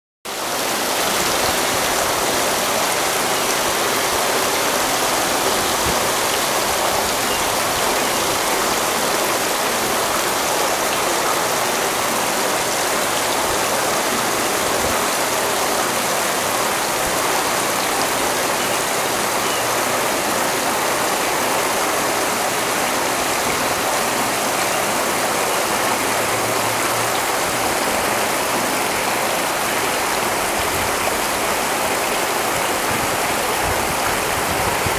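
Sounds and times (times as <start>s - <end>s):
creek babbling over stones: 0.3s - 34.9s.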